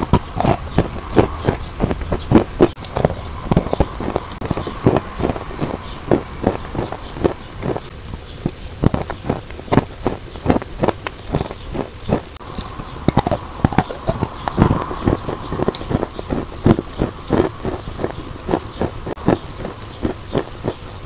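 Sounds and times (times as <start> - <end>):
chalk crunching while chewed: 0.0 - 21.0.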